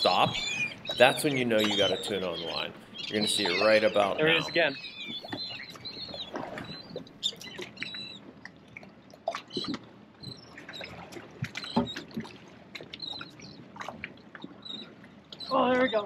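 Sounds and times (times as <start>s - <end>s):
seabirds chirping: 0.0s - 8.4s, 9.3s - 16.0s.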